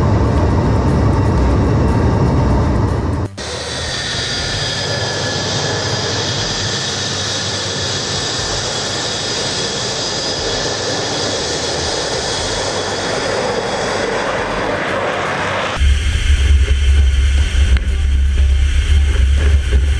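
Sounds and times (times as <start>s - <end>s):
high turbine whine: 0.0s - 19.9s
jet engine rushing: 0.0s - 19.9s.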